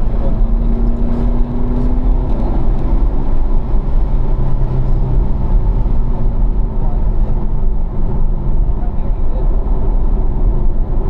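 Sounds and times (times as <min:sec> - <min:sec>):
car engine accelerating: 0:00.0 - 0:11.0
road and wind rumble: 0:00.0 - 0:11.0.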